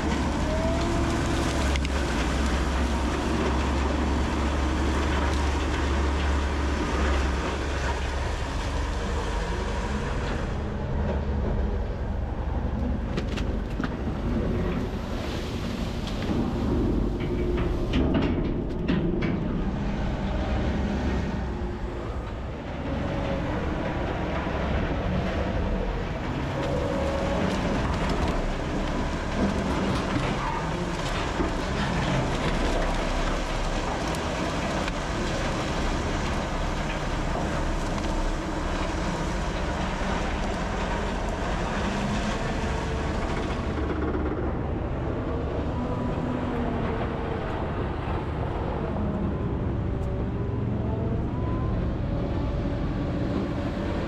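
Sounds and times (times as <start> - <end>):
wheel loader running: 0.0 - 54.0.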